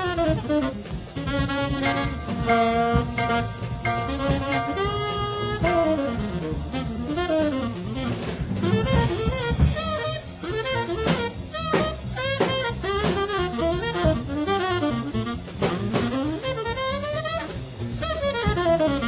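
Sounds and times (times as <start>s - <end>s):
jazz drum kit: 0.0s - 19.0s
tenor saxophone bebop solo: 0.0s - 19.0s.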